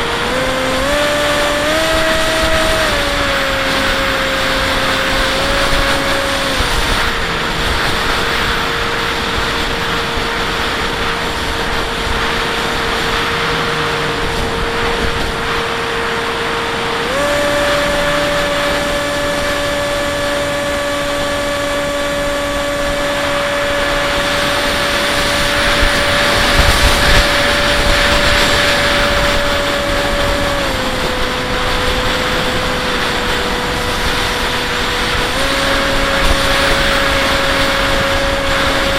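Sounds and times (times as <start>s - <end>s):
electric motor propeller whining: 0.0s - 38.9s
wind rushing: 1.6s - 38.9s.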